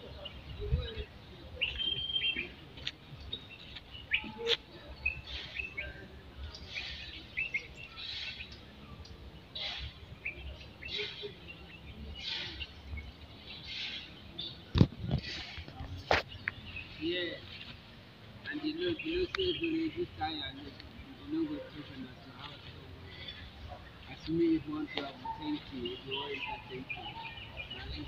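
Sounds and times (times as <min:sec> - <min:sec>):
birds chirping and whistling: 0:00.1 - 0:17.8, 0:18.5 - 0:28.0.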